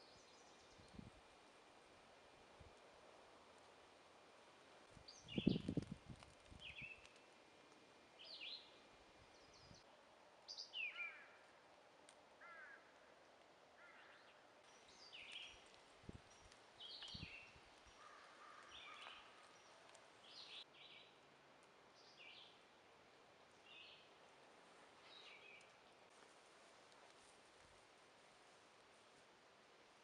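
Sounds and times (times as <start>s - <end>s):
faint steady hiss: 0.0s - 30.0s
songbirds chirping: 0.0s - 30.0s.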